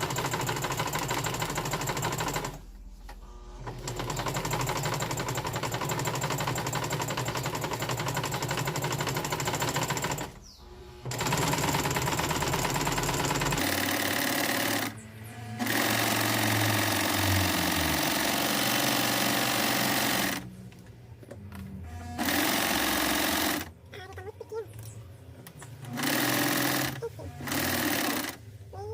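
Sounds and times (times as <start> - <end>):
sewing machine stitching: 0.0 - 2.6, 3.2 - 10.4, 11.0 - 20.5, 21.9 - 23.7, 25.8 - 28.9.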